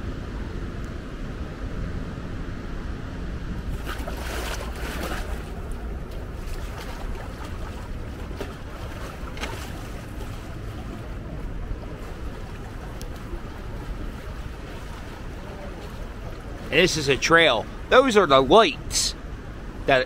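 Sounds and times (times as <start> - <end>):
wind on microphone: 0.0 - 16.8
floodwater rushing: 3.6 - 20.0.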